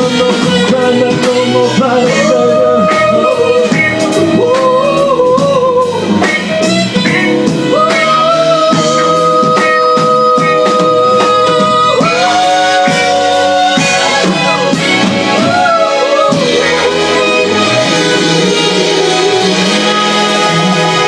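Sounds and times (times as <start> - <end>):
live band with guitar: 0.0 - 21.0.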